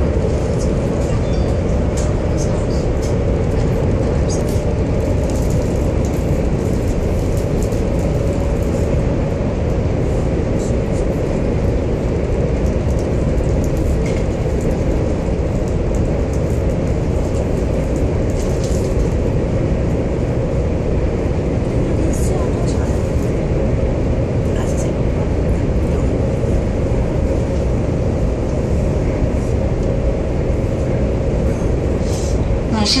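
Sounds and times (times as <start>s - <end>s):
train rumble inside passenger car: 0.0s - 33.0s.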